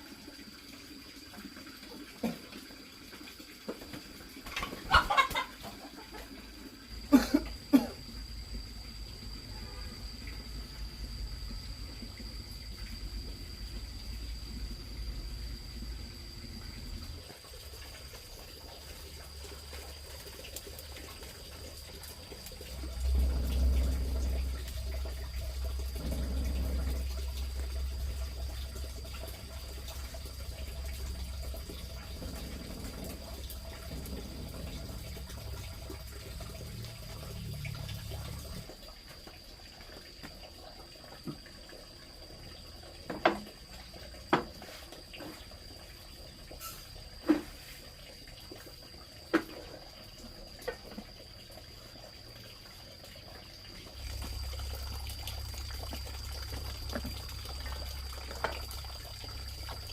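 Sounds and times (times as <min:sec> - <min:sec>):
water running: 0:00.0 - 0:59.9.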